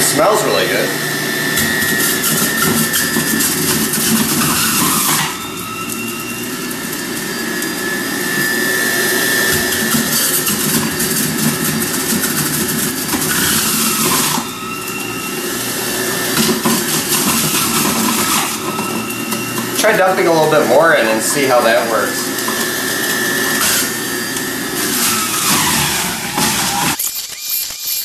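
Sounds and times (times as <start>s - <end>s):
juicer motor whine: 0.0s - 28.0s.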